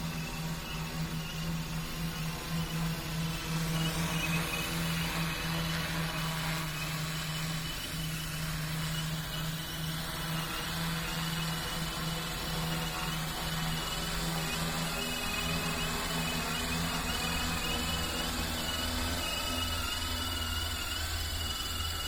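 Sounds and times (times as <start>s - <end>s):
drone rotors humming: 0.0s - 22.0s.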